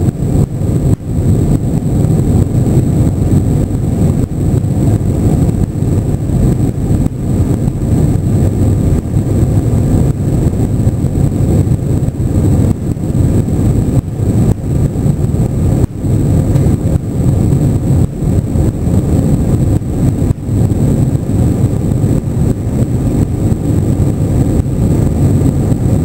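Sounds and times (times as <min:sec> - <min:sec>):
faint high whine: 0:00.0 - 0:26.0
jet engines and airflow roar: 0:00.0 - 0:26.0.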